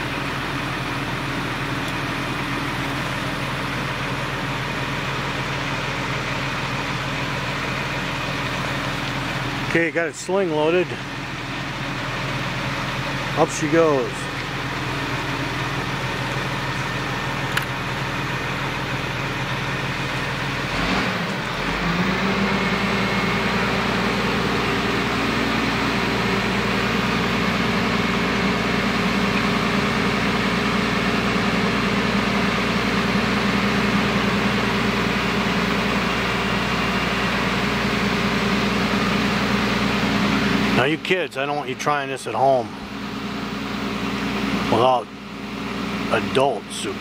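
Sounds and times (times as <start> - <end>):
diesel engine revving: 0.0 - 47.0.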